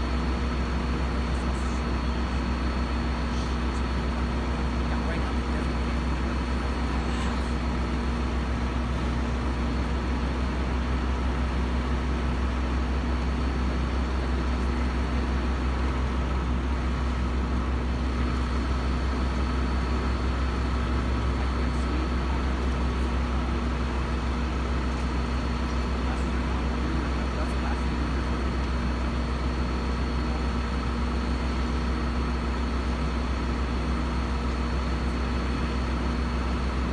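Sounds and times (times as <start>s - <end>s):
fire engine motor droning: 0.0s - 36.9s.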